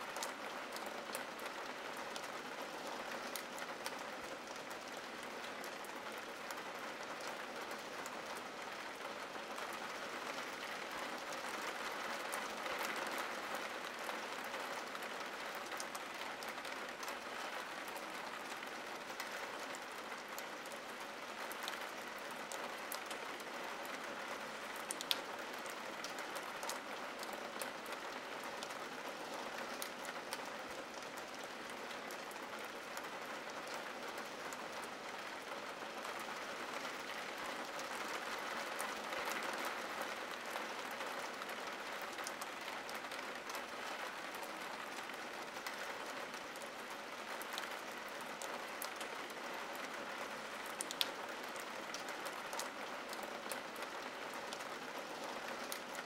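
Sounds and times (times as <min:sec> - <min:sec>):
rain on window glass: 0:00.0 - 0:56.0.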